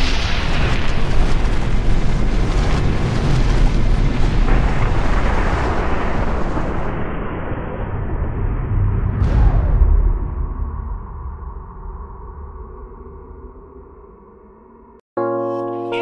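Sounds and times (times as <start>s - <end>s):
rushing blast of noise: 0.0s - 15.0s
deep rumble: 0.4s - 15.0s.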